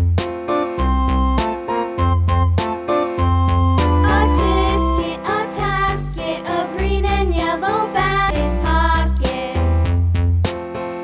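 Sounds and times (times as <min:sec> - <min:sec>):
cheerful children's tune: 0:00.2 - 0:09.9.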